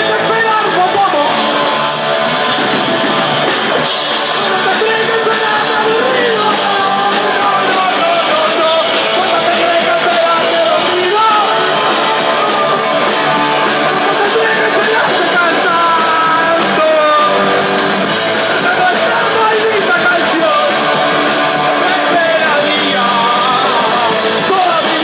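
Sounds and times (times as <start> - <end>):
person singing: 0.0 - 25.0
punk rock band playing live: 0.0 - 25.0.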